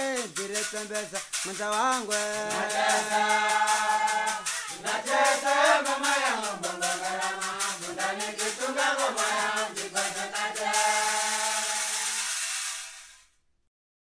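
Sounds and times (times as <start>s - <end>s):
voices chanting: 0.0s - 12.3s
fast rattle beat: 0.0s - 13.2s
steady high hiss: 0.0s - 13.2s.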